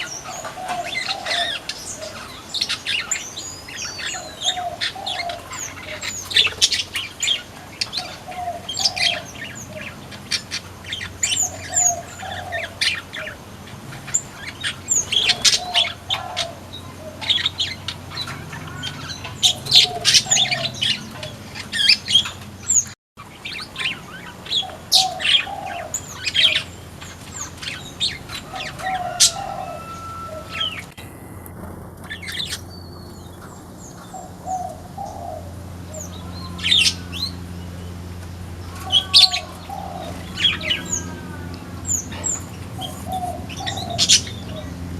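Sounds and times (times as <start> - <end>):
lower bird call: 0.0 - 44.9
small birds chirping: 0.0 - 44.9.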